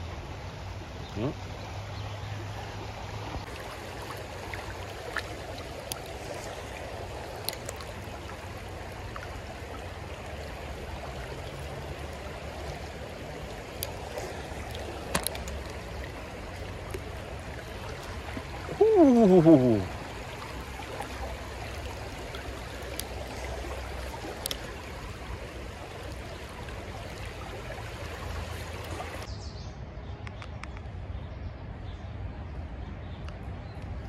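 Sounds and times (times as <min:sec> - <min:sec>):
creek water running over rocks: 0:00.0 - 0:29.3.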